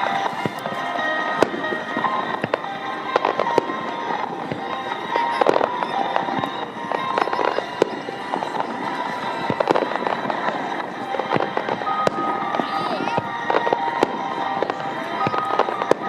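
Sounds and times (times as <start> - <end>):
fireworks bangs: 0.0 - 16.0
fireworks crackling: 0.0 - 16.0
music playing: 0.0 - 16.0.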